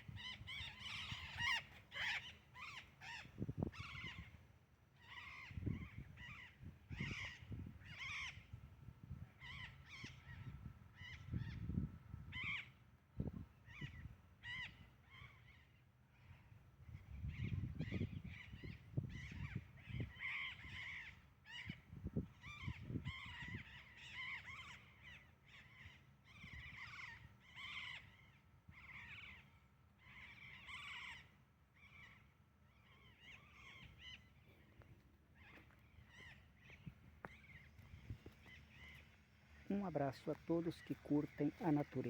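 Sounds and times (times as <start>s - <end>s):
birds calling: 0.0s - 4.4s, 5.0s - 8.6s, 13.7s - 42.0s.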